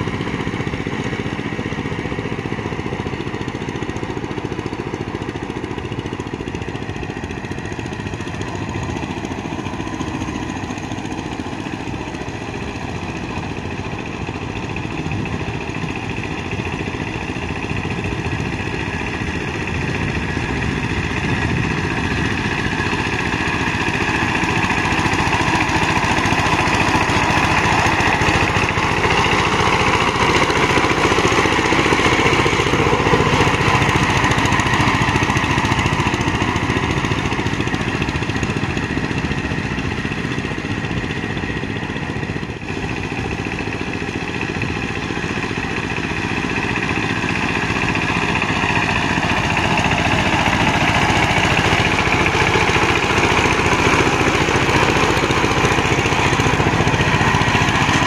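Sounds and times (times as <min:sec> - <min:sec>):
power tiller engine running: 0:00.0 - 0:58.0.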